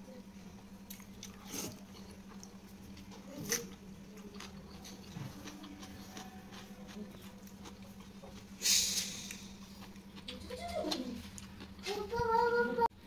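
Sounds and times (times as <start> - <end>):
chewing sounds: 0.8 - 12.5.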